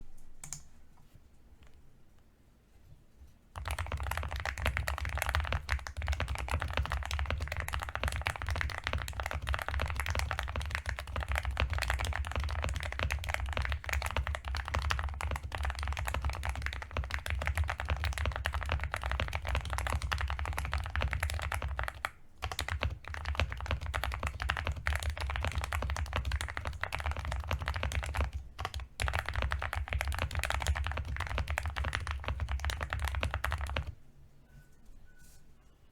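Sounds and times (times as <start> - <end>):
mechanical keyboard typing: 3.6 - 34.0.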